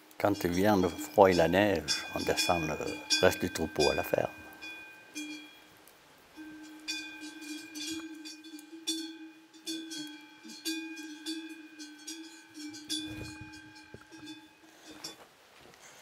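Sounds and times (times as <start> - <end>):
cowbells clanking: 0.2 - 5.7, 6.3 - 15.2.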